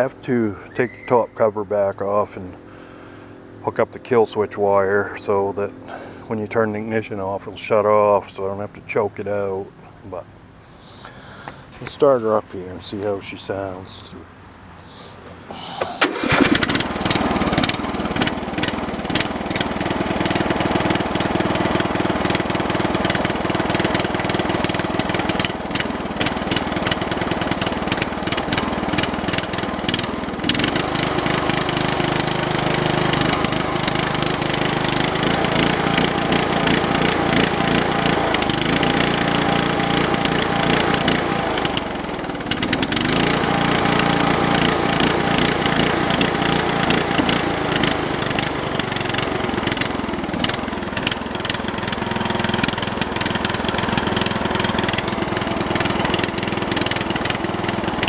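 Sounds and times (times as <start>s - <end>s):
lawn tractor engine running unsteadily: 0.0s - 58.0s.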